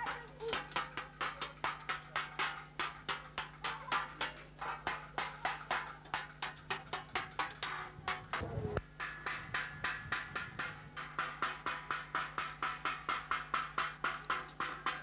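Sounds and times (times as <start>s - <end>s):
drum beaten fast: 0.0s - 15.0s
steady low hum: 0.0s - 15.0s.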